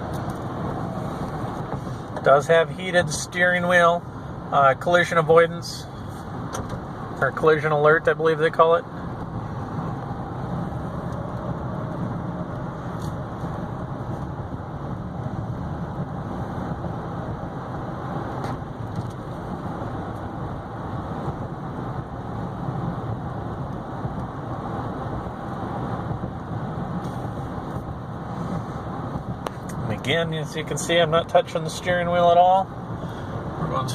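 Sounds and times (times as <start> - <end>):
car cabin road and engine hum: 0.0 - 33.9.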